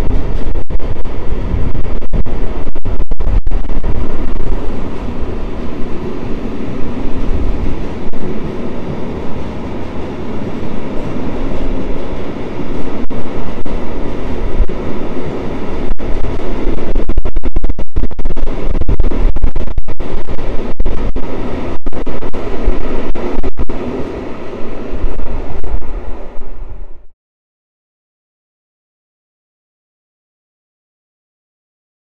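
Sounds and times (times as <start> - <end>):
freight train rumbling past: 0.0 - 27.1.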